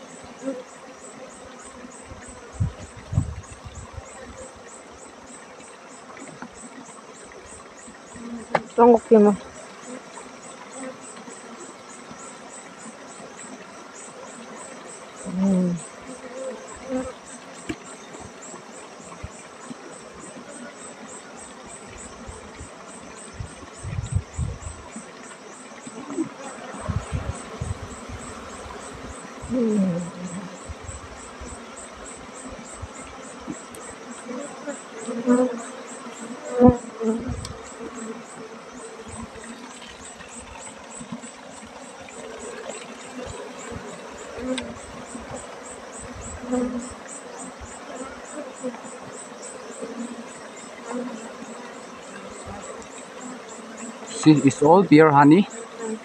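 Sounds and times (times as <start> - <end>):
honeybees buzzing: 0.0 - 56.0
insect chirping: 0.0 - 56.0
steady background hiss: 0.0 - 56.0.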